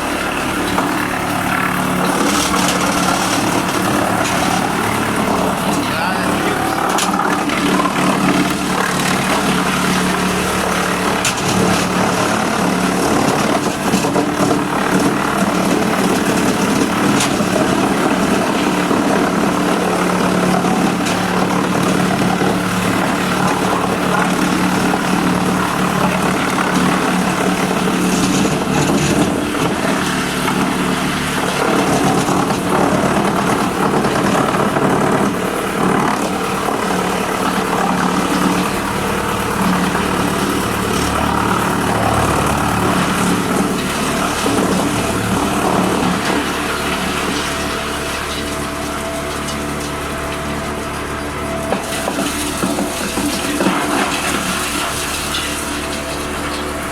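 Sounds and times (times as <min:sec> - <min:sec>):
wood chipper engine running: 0:00.0 - 0:56.9.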